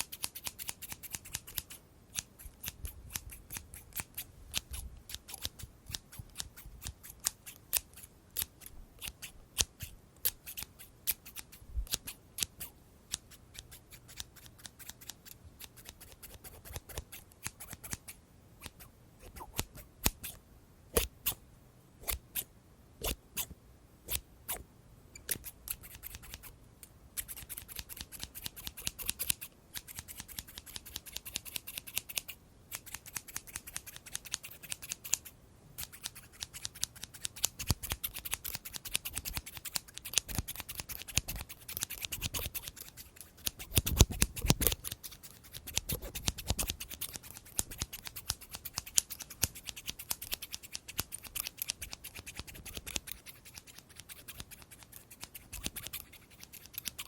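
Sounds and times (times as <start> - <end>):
scissors snipping: 0.0 - 20.4, 21.0 - 21.4, 22.0 - 23.5, 25.2 - 57.0.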